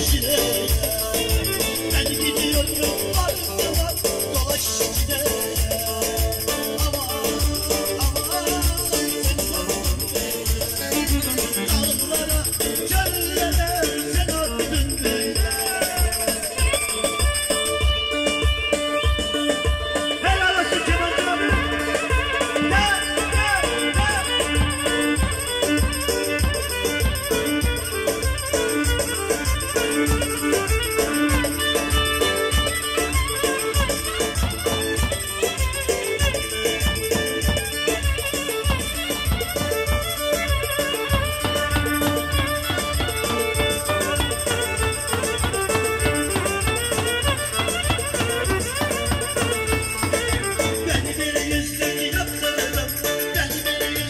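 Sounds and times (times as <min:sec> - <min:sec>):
bass drum beating: 0:00.0 - 0:54.0
folk melody with wavering notes: 0:00.0 - 0:54.0.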